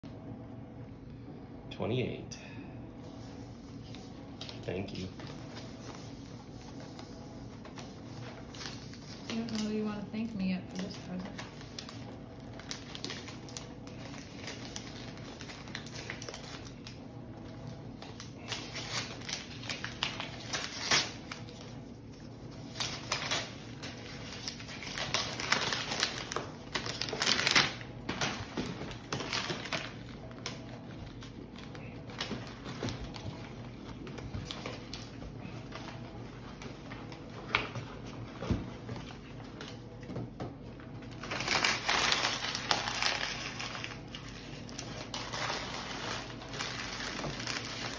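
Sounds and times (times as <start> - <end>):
paper packaging rustling: 3.1 - 17.0, 17.6 - 40.0, 40.9 - 47.9.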